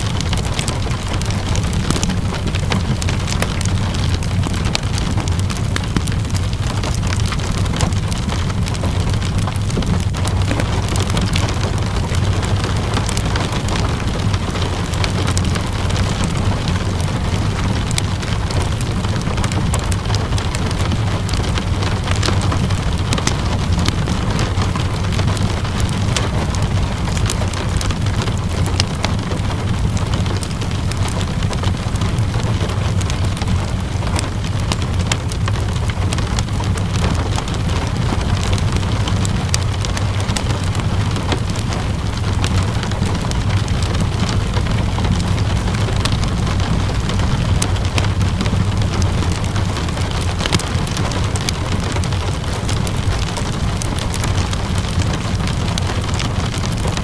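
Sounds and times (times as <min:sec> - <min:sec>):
steady rainfall: 0:00.0 - 0:57.0
wood fire crackling: 0:00.0 - 0:57.0.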